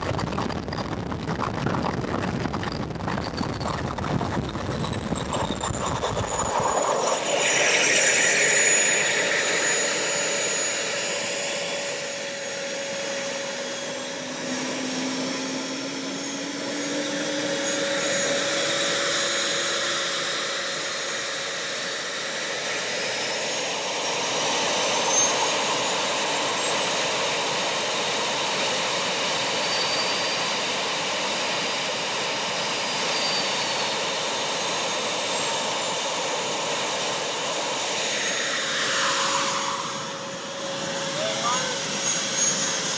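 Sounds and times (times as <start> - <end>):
model jet turbine whine: 0.0 - 42.9.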